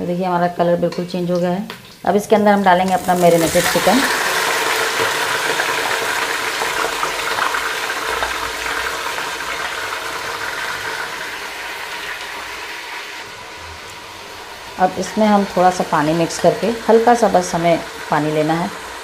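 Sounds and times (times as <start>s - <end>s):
chicken sizzling in hot fat: 1.9s - 19.0s.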